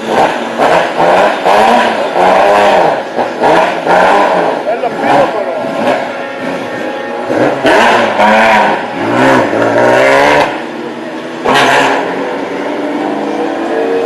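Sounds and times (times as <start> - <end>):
loud rush of noise: 0.0 - 14.0
racing engines revving: 0.0 - 14.0.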